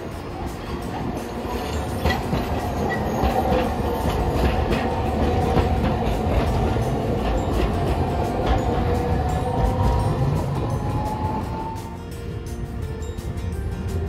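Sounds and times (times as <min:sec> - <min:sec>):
streetcar rumble: 0:00.0 - 0:14.0
streetcar wheels clicking on rails: 0:00.0 - 0:14.0.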